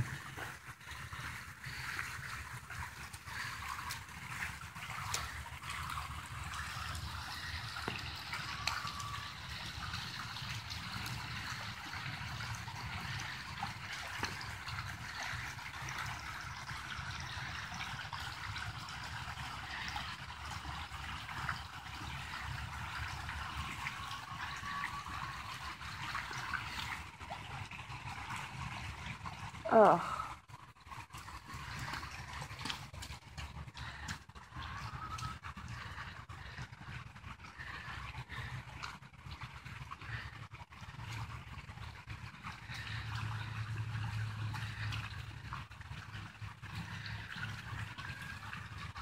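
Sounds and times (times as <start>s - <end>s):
floodwater rushing: 0.0s - 49.0s.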